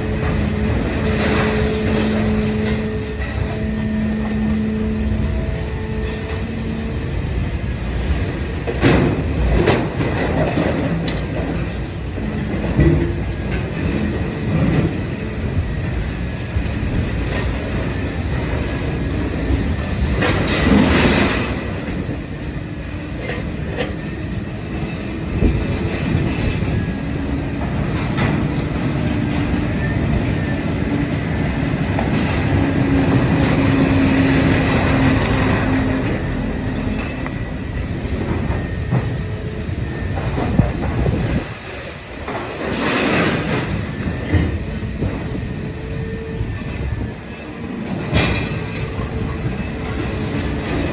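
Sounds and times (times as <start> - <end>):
hydraulic drone: 0.0 - 50.9.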